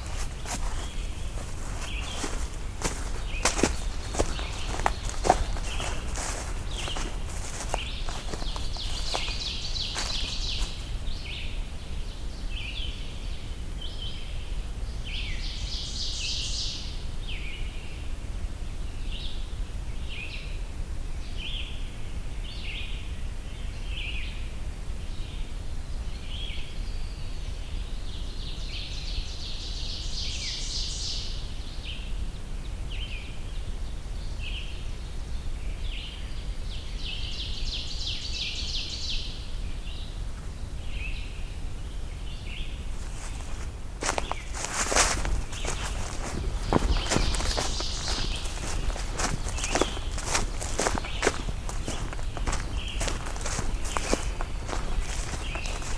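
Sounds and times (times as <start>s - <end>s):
songbirds singing: 0.0s - 18.1s, 21.2s - 55.9s.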